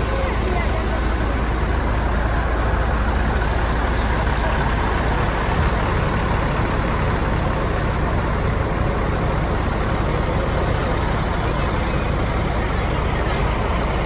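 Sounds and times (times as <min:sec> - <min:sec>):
diesel engines idling: 0:00.0 - 0:14.0.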